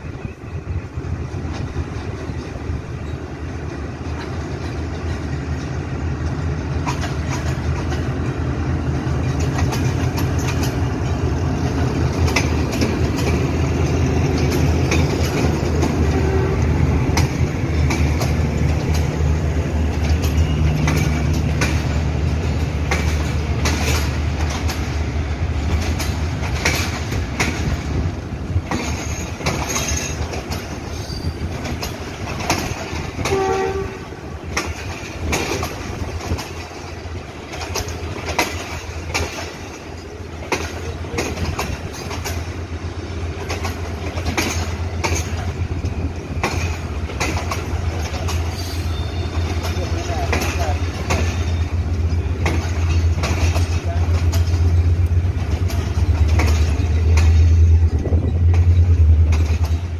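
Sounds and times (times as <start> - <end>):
diesel locomotive rumble: 0.0 - 59.9
wheels clacking over rail joints: 1.1 - 59.9.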